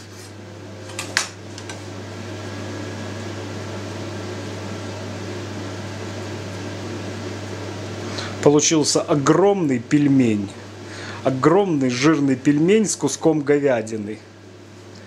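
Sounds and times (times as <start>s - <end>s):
low electrical hum: 0.0s - 15.0s
machine hum: 0.0s - 15.0s.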